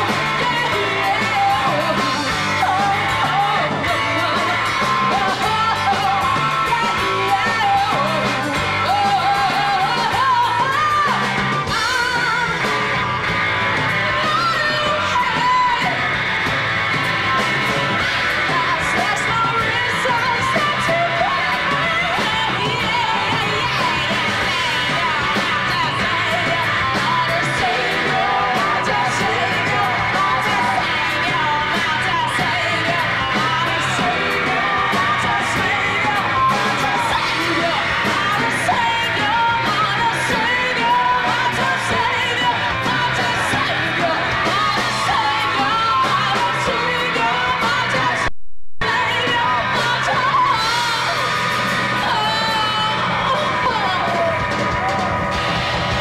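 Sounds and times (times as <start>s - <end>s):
woman singing into a microphone: 0.0s - 13.0s, 13.8s - 16.2s, 16.9s - 54.8s
drums with cymbals: 0.0s - 48.2s
electric bass: 0.0s - 56.0s
electric guitar: 0.0s - 56.0s.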